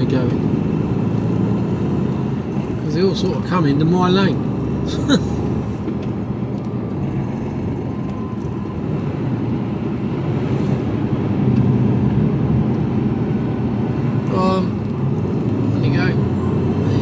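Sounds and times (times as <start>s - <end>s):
lorry diesel engine rumble: 0.0s - 17.0s
road noise: 0.0s - 17.0s.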